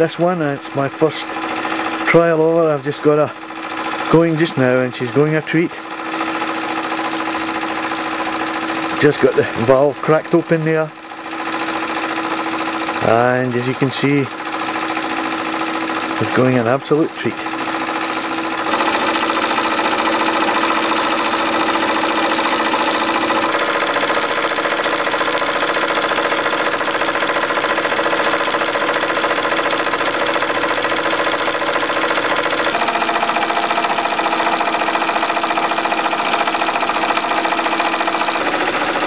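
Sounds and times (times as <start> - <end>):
toy steam engine clatter: 0.0 - 39.0.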